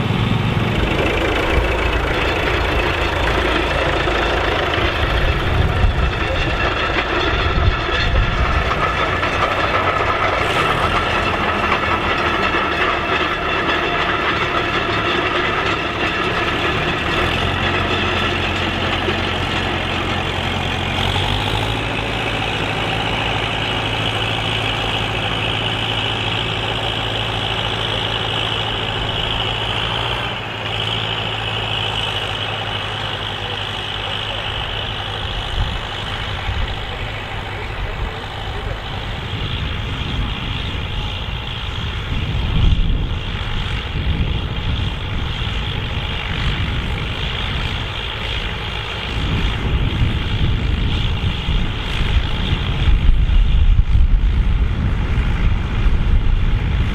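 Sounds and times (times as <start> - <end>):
tractor engines running under load: 0.0 - 56.9.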